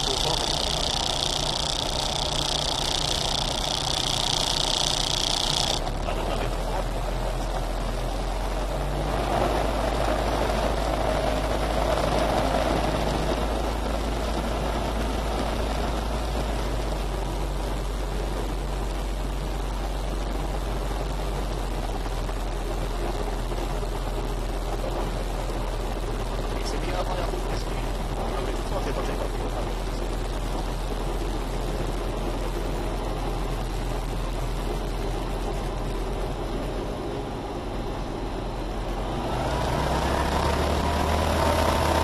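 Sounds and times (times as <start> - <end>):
aircraft engine drone in cockpit: 0.0 - 42.0.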